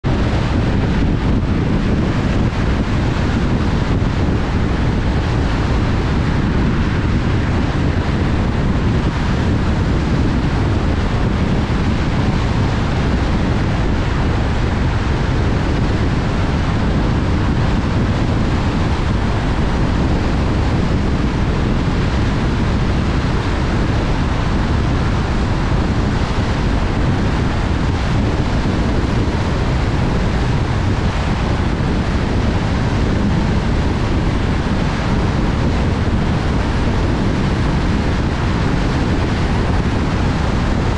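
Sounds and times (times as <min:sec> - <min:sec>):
low road rumble: 0:00.0 - 0:40.9
wind noise: 0:00.0 - 0:40.9.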